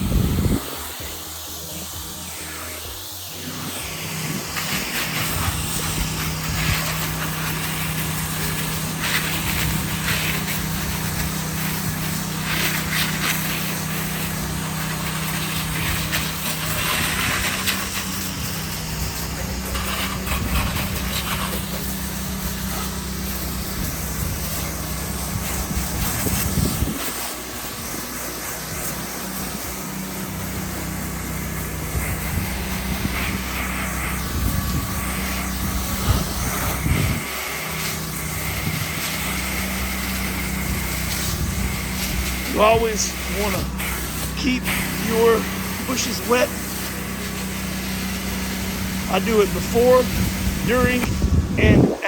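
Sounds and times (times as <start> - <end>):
gas engine water pump running: 0.0 - 52.0
water spraying hiss: 0.0 - 52.0.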